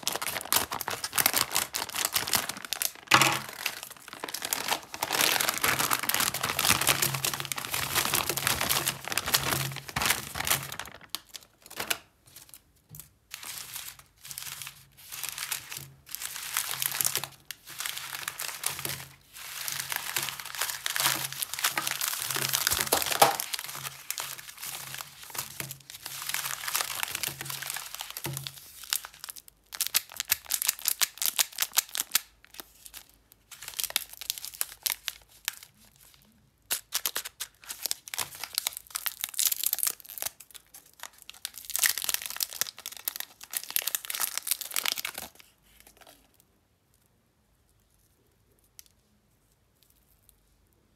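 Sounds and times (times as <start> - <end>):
plastic wrappers crinkling: 0.0 - 46.4.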